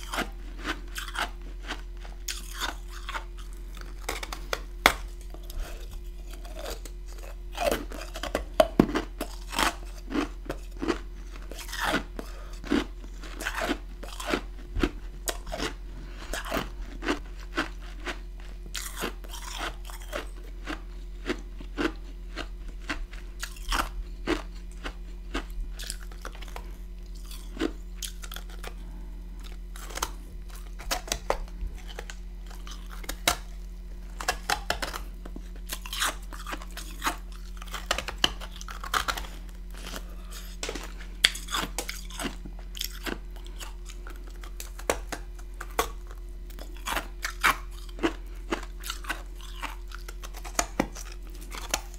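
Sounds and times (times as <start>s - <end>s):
chewing crunchy frost: 0.0s - 51.9s
faint steady hum: 0.0s - 51.9s.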